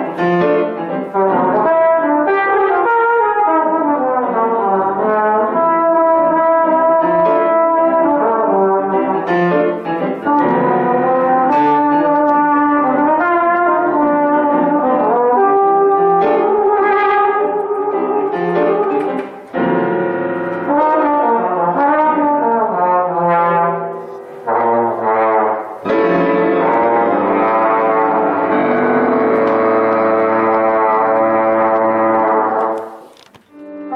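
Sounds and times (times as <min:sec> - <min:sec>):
brass instrument melody: 0:00.0 - 0:33.9.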